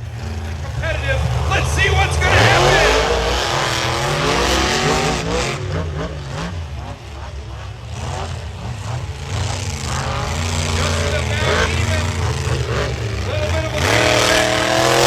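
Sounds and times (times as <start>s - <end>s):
monster truck engines revving: 0.0s - 15.0s.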